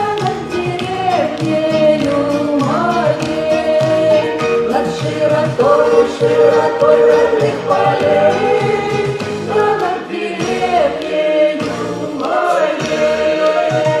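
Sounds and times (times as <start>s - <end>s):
instrumental accompaniment: 0.0s - 14.0s
voices singing long notes: 0.7s - 14.0s.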